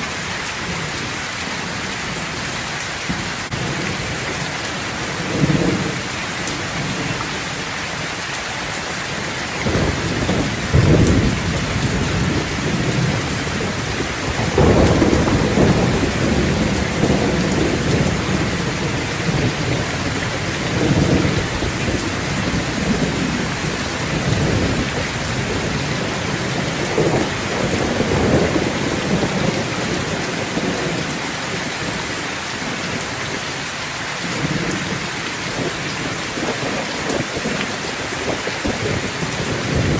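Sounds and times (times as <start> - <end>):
steady rain falling: 0.0 - 39.9
thunder rumbling: 3.1 - 7.7, 9.1 - 33.4, 34.2 - 39.9.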